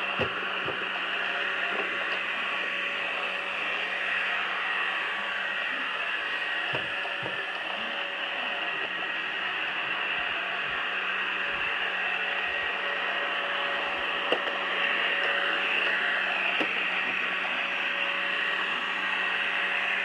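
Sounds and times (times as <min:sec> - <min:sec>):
robot vacuum motor whir: 0:00.0 - 0:20.0.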